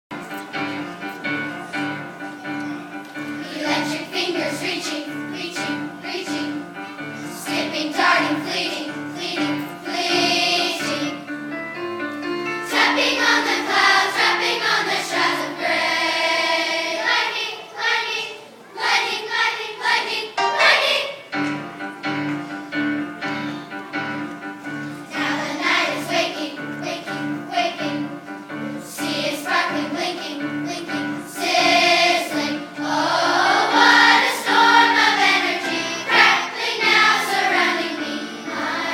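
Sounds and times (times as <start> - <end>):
instrumental accompaniment: 0.1 - 17.1, 20.3 - 38.9
children's choir singing: 0.1 - 38.9.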